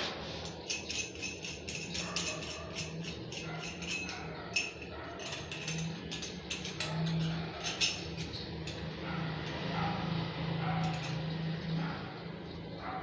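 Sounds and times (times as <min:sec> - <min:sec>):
small metal fittings clinking: 0:00.4 - 0:09.9, 0:10.6 - 0:11.9.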